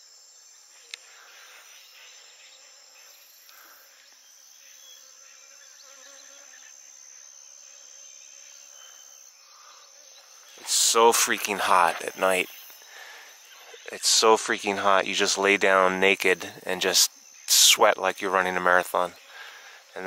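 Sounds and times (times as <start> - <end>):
high-pitched insect drone: 0.0 - 20.0
bees buzzing: 1.0 - 20.0.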